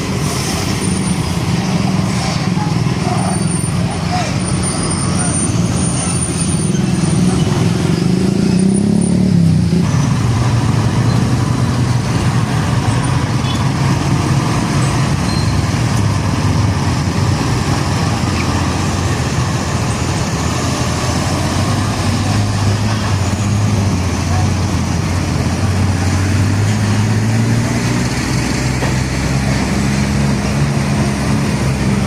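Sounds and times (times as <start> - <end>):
diesel truck engines droning: 0.0 - 32.0
traffic rumble: 0.0 - 32.0.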